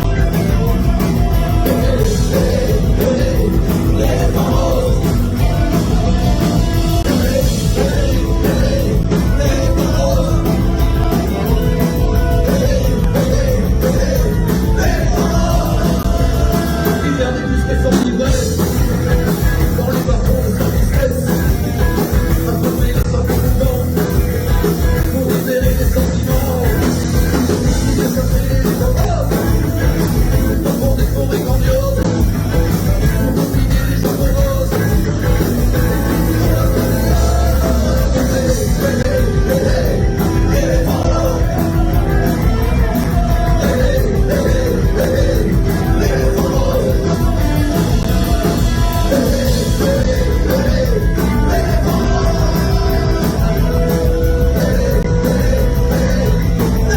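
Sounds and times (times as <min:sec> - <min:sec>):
person singing: 0:00.0 - 0:56.9
rock band playing live: 0:00.0 - 0:56.9.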